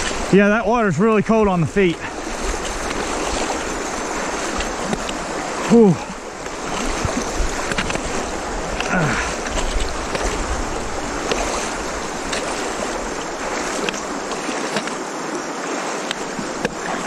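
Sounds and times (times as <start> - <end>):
creek water rushing: 0.0 - 17.0
small sharp splashes: 2.0 - 17.0.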